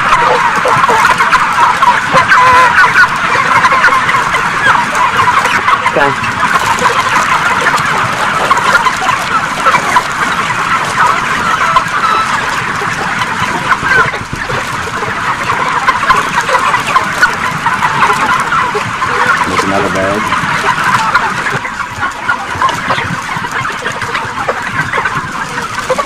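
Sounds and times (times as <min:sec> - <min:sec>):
chickens cheeping and clucking: 0:00.0 - 0:26.0.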